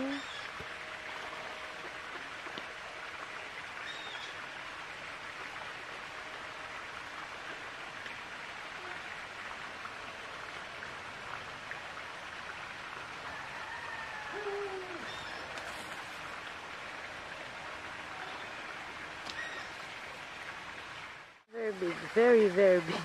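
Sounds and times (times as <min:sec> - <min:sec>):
rushing outdoor hiss: 0:00.0 - 0:23.0.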